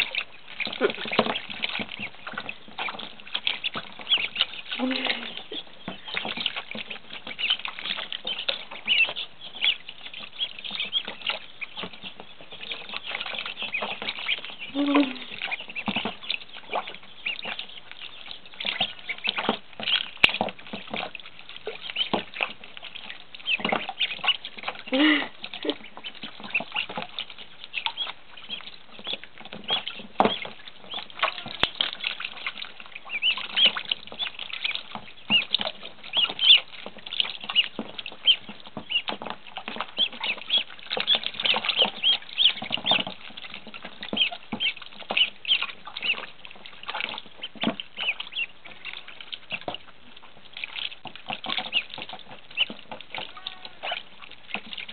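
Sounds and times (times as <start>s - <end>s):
ducklings peeping: 0.0s - 54.9s
splashing in shallow water: 0.0s - 54.9s.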